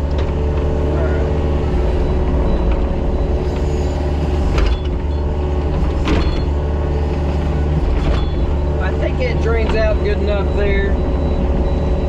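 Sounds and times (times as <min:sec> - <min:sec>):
excavator diesel engine: 0:00.0 - 0:12.0.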